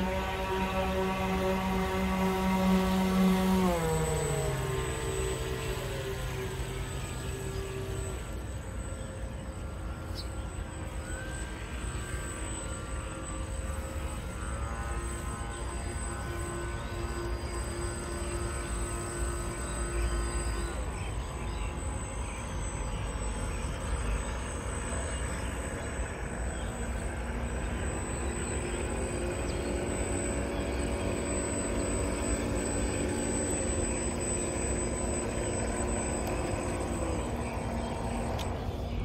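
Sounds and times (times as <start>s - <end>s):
model boat motor whine: 0.0s - 39.0s.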